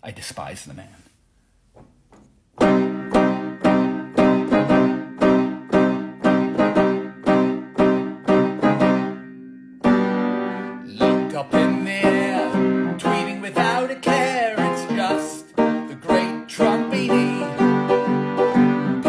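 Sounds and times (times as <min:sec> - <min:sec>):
piano chords: 0:02.6 - 0:19.0.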